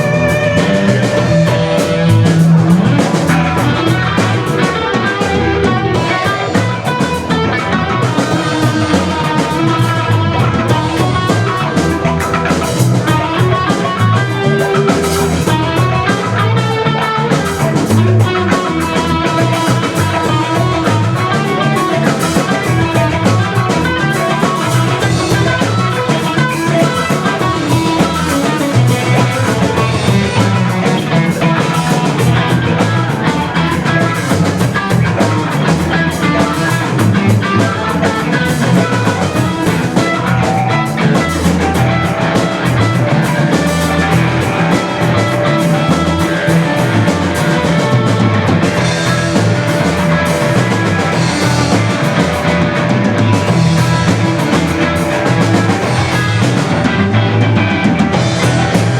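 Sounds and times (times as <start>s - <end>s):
instrumental rock music: 0.0s - 58.9s.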